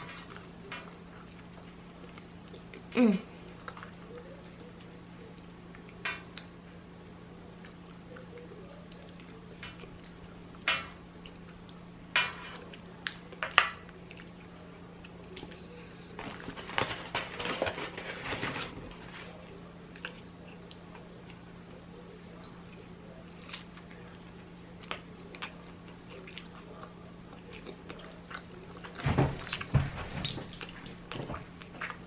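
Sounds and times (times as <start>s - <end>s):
crunchy food crackling: 0.0s - 29.6s
steady low hum: 0.0s - 32.0s.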